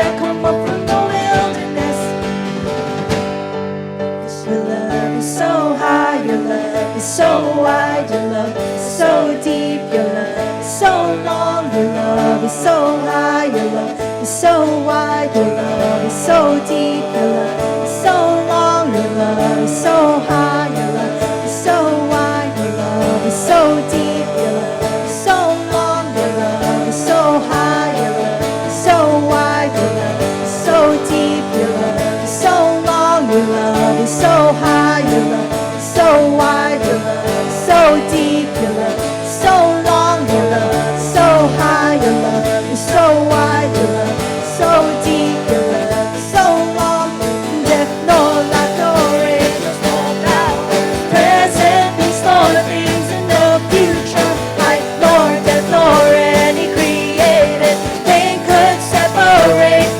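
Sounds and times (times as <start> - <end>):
steady drum beat: 0.0 - 3.9, 14.0 - 59.9
live worship band music: 0.0 - 59.9.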